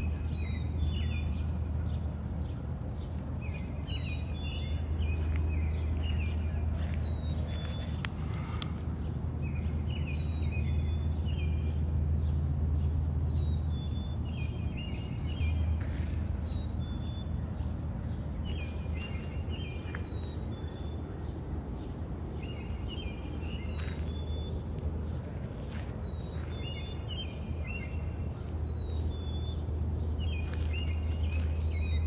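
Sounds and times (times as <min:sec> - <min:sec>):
songbird singing: 0:00.0 - 0:32.0
steady low rumble: 0:00.0 - 0:32.0.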